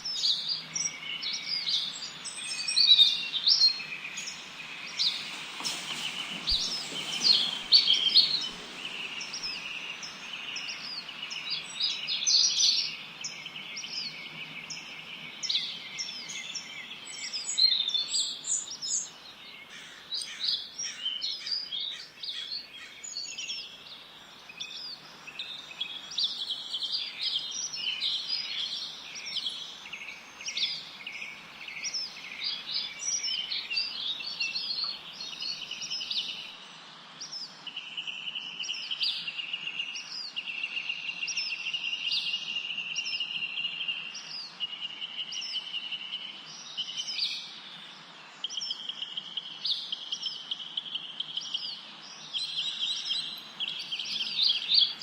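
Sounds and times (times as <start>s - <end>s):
faint background hiss: 0.0s - 55.0s
small songbirds chirping and trilling: 0.0s - 55.0s.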